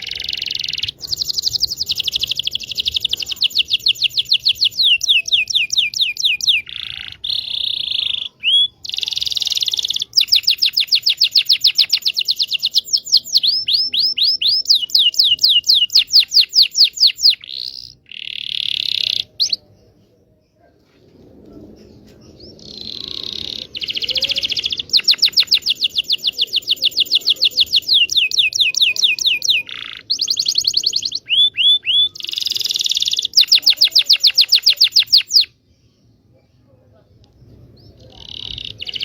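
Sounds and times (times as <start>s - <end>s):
canary singing trills: 0.0s - 20.2s, 21.8s - 36.4s, 37.4s - 39.0s.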